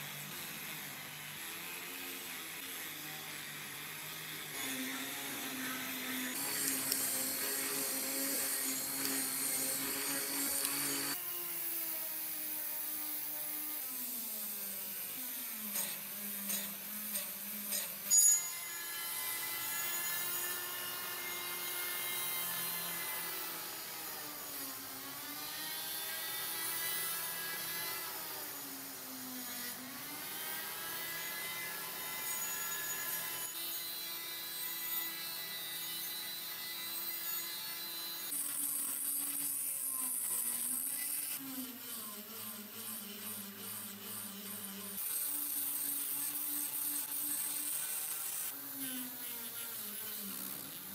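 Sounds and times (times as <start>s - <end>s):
rotary tool whining on steel: 0.0s - 50.9s.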